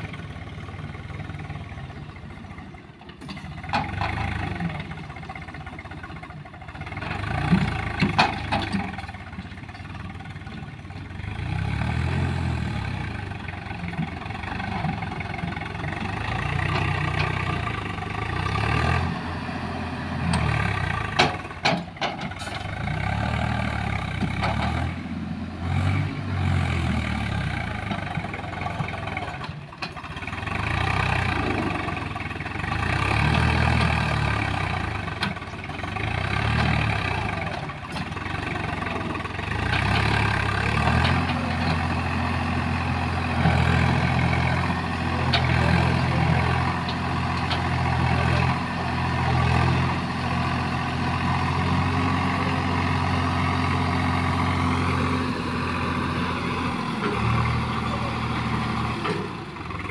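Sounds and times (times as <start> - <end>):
tractor diesel engine: 0.0 - 59.9.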